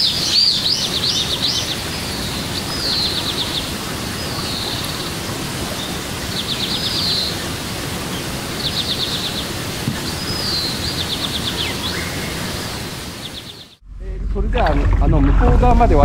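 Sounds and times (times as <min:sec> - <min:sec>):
hiss-like outdoor background: 0:00.0 - 0:13.8.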